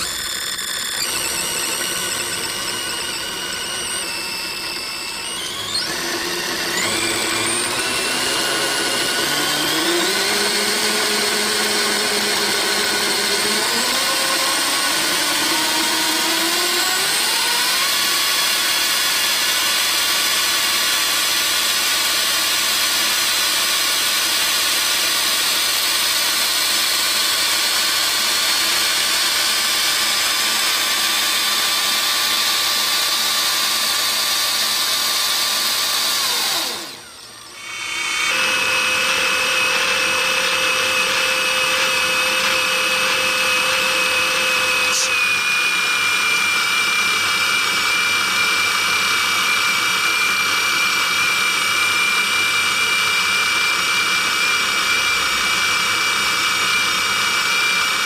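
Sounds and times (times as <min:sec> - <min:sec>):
small electric motor whining: 0:00.0 - 0:58.0.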